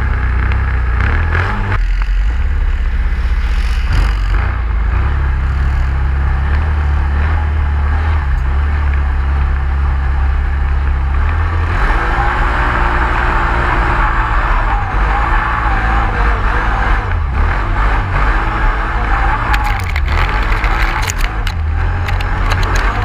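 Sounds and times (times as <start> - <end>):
rough high engine noise: 0.0 - 23.0
vehicle engine droning: 0.0 - 23.0.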